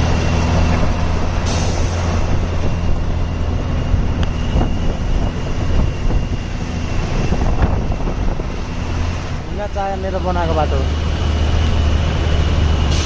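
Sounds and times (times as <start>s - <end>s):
heavy truck engine hum: 0.0s - 13.0s.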